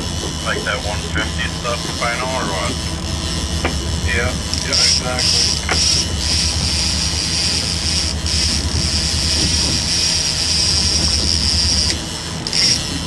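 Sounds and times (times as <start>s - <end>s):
boat engine low rumble: 0.0s - 13.0s
high-pitched whine: 0.0s - 13.0s.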